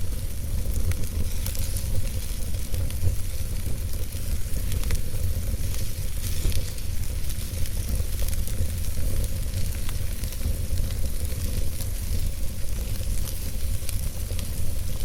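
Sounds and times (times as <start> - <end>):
low rumble and hiss: 0.0 - 15.0
wood fire crackling: 0.0 - 15.0.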